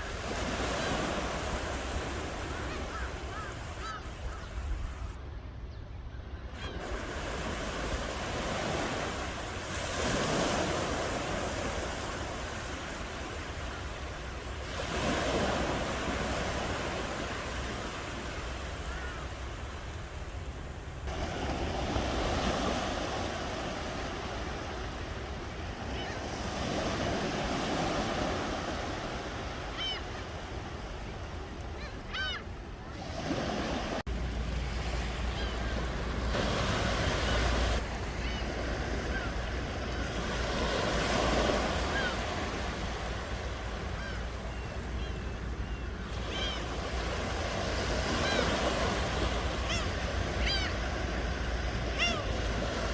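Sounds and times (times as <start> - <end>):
ocean waves breaking on shore: 0.0 - 5.6, 6.4 - 52.9.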